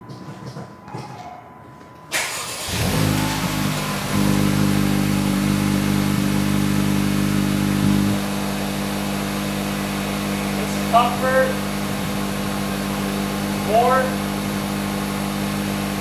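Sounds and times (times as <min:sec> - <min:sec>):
car engine idling: 0:02.1 - 0:16.0.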